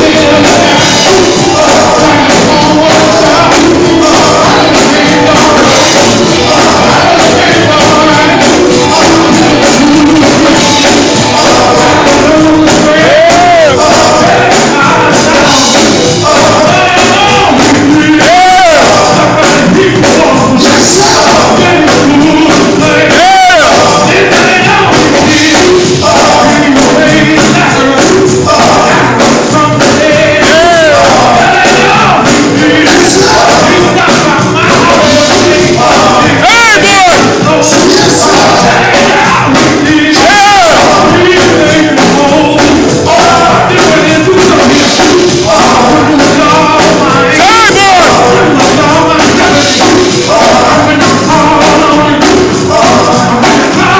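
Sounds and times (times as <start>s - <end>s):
live gospel music: 0.0s - 53.9s.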